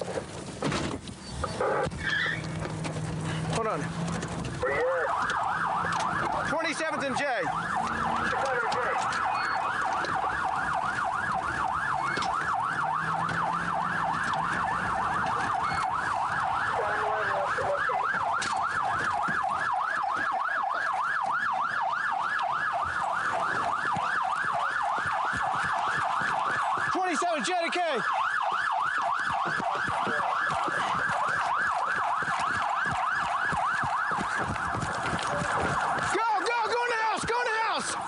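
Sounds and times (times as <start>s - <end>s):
road noise: 0.0s - 38.0s
police siren yelping: 1.4s - 2.9s, 3.5s - 38.0s.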